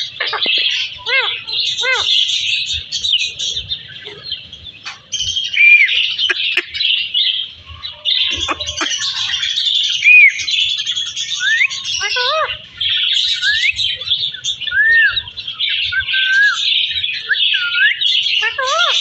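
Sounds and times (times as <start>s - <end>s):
parrots chattering and chirping: 0.0s - 19.0s.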